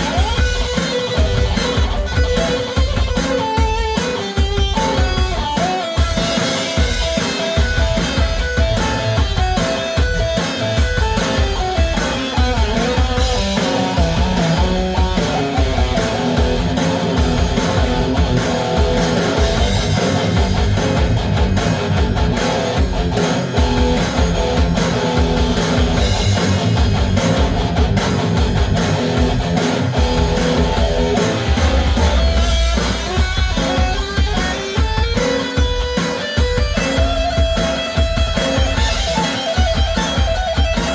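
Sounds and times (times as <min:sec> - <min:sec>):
drum beat: 0:00.0 - 0:40.9
electric guitar with effects: 0:00.0 - 0:40.9.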